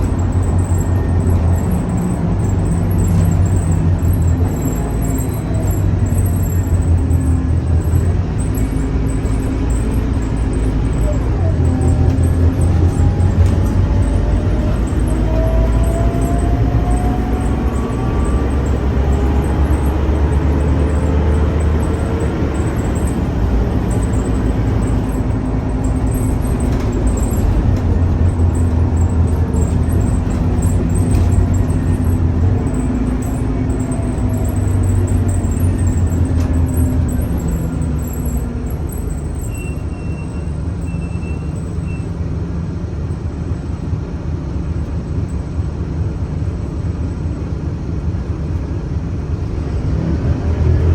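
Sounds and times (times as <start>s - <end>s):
bus engine droning: 0.0s - 50.9s.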